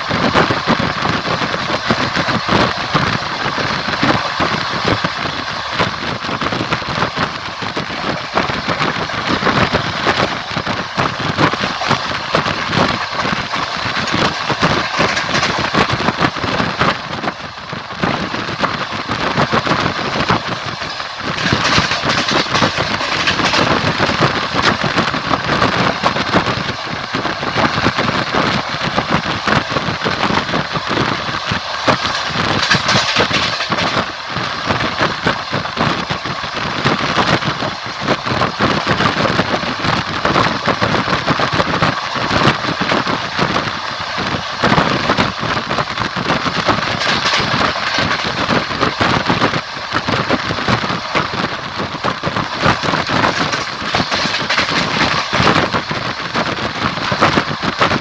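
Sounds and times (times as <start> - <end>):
train rolling rumble: 0.0 - 58.0
wheels clattering over rail joints: 0.0 - 58.0.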